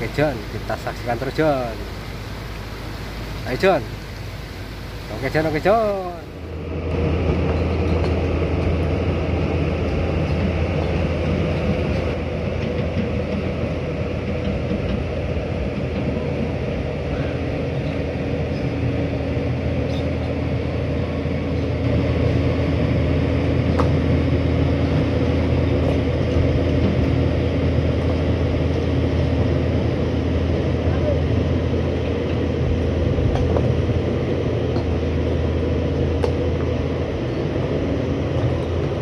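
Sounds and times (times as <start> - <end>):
excavator diesel engine droning: 0.0 - 39.0.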